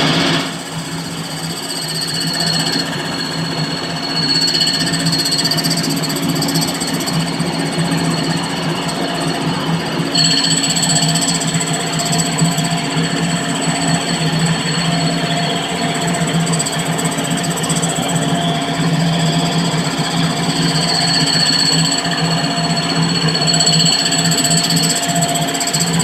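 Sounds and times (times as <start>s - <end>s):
high grinding whine: 0.0s - 26.0s.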